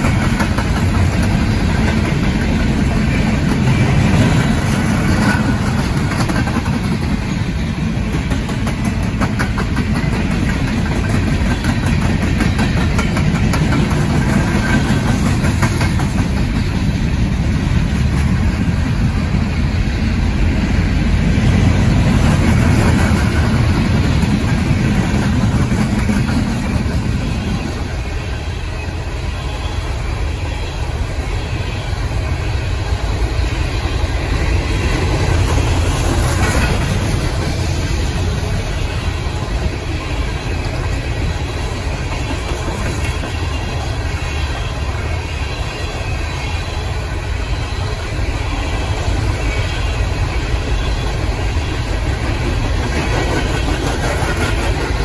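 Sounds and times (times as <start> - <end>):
diesel locomotive engine: 0.0 - 55.0
rail cars rumbling: 0.0 - 55.0.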